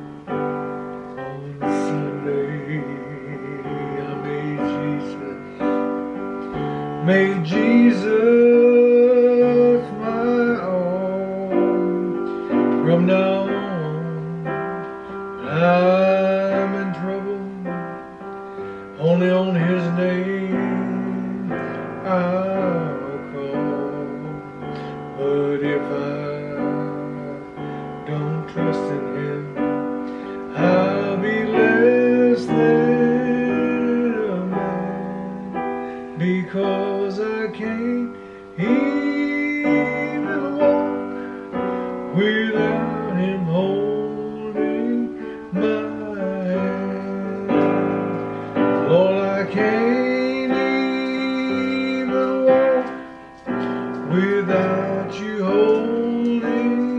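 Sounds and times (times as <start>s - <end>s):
man singing gospel song: 0.0s - 56.9s
piano chords: 0.0s - 56.9s.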